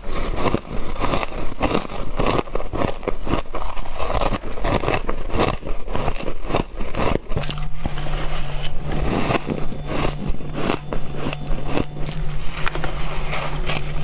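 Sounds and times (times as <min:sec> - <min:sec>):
crunching frost being chewed: 0:00.0 - 0:14.0
low steady hum: 0:00.0 - 0:14.0.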